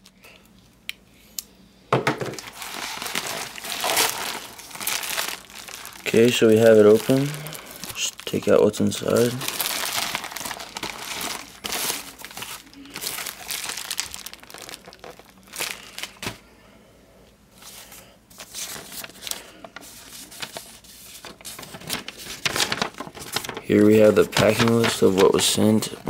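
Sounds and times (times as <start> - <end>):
plastic packaging crinkling: 2.2 - 16.4, 17.6 - 26.0.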